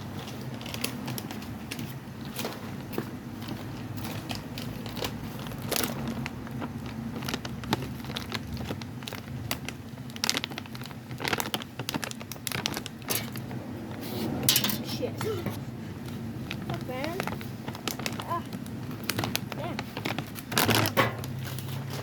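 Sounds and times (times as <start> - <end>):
crackling handling noise: 0.0 - 22.0.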